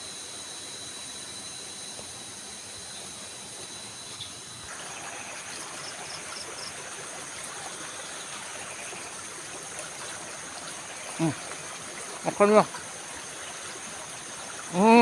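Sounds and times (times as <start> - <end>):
insects trilling: 0.0 - 15.0
stream water flowing: 2.0 - 15.0.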